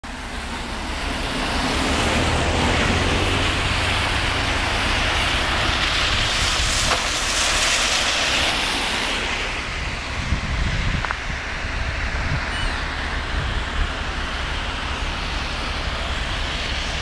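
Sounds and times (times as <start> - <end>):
strong wind buffeting microphone: 0.2 - 17.0.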